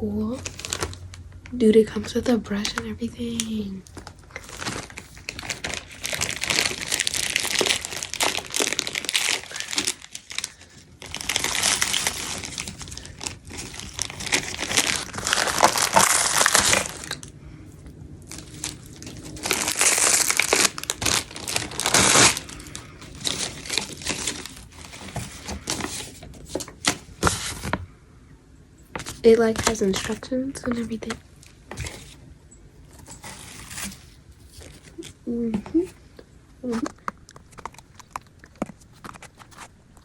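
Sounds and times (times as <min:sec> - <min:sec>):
packaging crinkling and rustling: 0:00.2 - 0:27.9, 0:28.9 - 0:36.0, 0:36.6 - 0:40.0.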